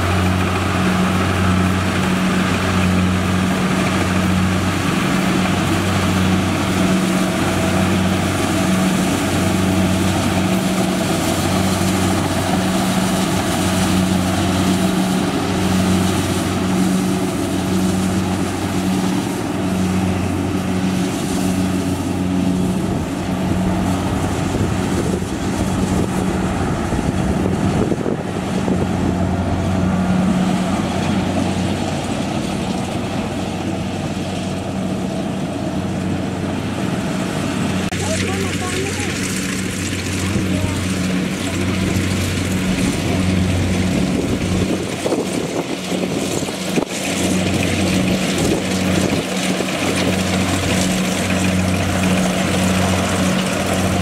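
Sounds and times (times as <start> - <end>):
combine harvester diesel engine hum: 0.0 - 54.0.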